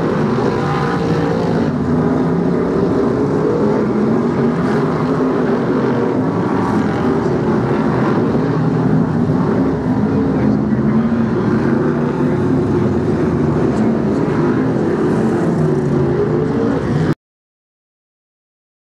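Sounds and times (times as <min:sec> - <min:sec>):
race car engines: 0:00.0 - 0:17.2.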